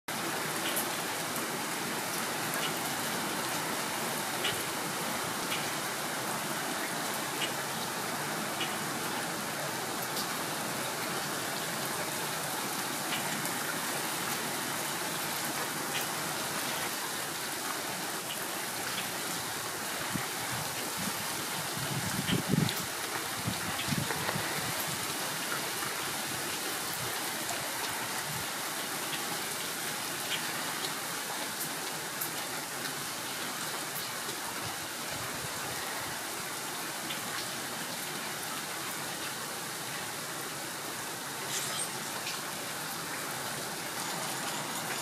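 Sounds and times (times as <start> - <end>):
rain on asphalt and puddles: 0.1 - 45.0.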